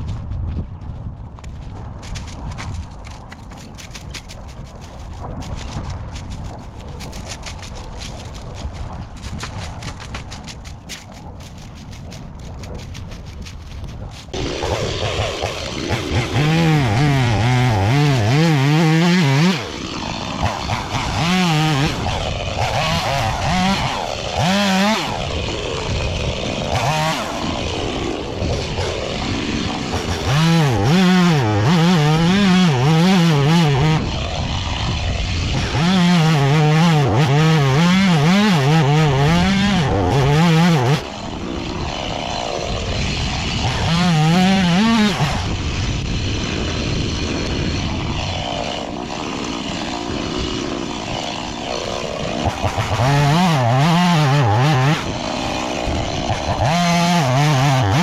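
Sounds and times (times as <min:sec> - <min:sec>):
small engine revving: 0:10.6 - 0:58.0.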